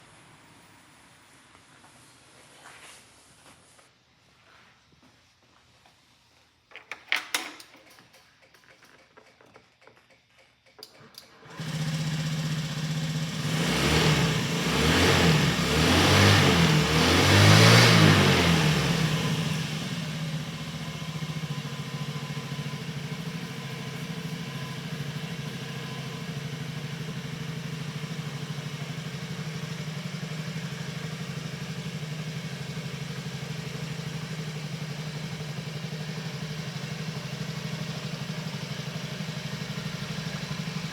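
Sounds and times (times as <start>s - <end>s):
scooter engine starting and idling: 6.8s - 40.9s.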